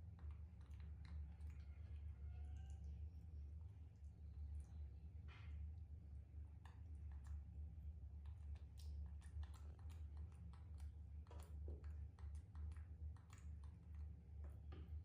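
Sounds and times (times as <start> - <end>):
faint small clicks and ticks: 0.0 - 2.0, 3.6 - 15.0.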